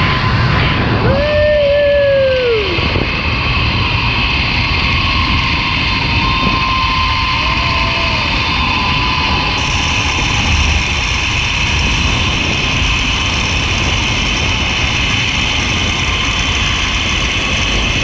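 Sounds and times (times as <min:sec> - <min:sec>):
wind rush: 0:00.0 - 0:18.0
zipline pulleys whining: 0:00.0 - 0:18.0.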